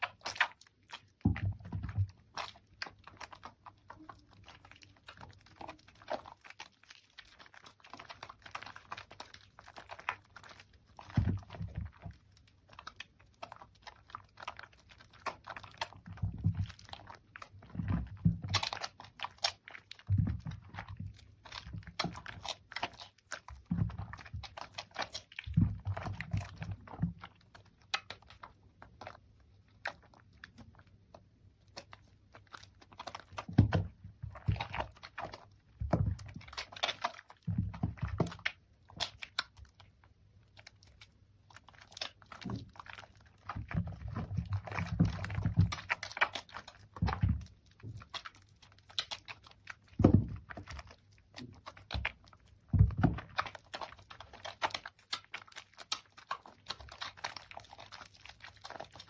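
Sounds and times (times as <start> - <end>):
soap lather squished by hand: 0.0 - 59.0.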